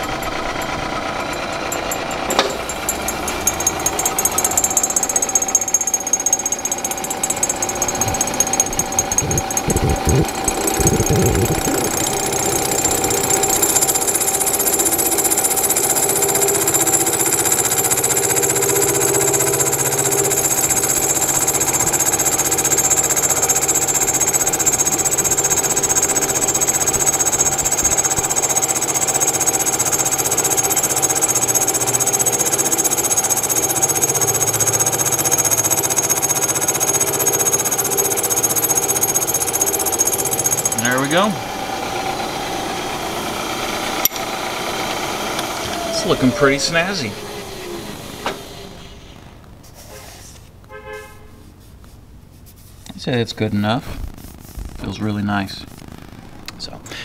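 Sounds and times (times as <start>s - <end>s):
milling machine cutting metal: 0.0s - 49.0s.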